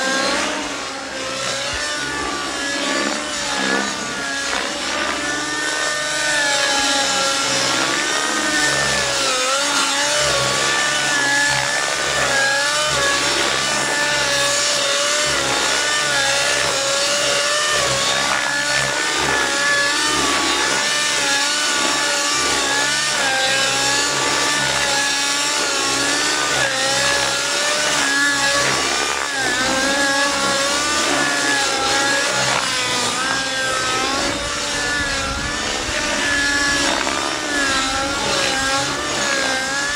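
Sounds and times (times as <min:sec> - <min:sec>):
model helicopter engine running: 0:00.0 - 0:39.9.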